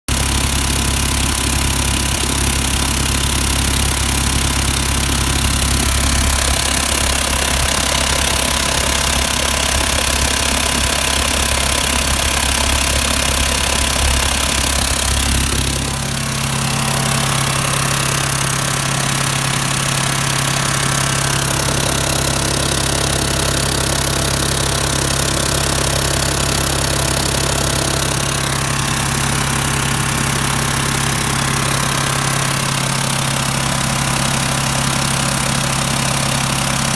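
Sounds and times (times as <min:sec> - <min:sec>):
van engine running: 0:00.1 - 0:36.9.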